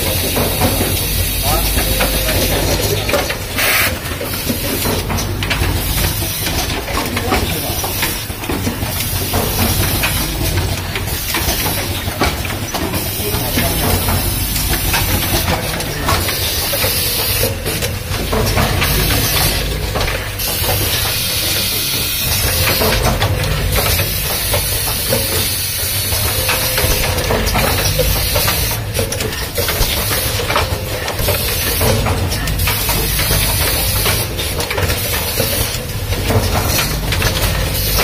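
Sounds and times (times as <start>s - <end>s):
machine humming: 0.0s - 38.0s.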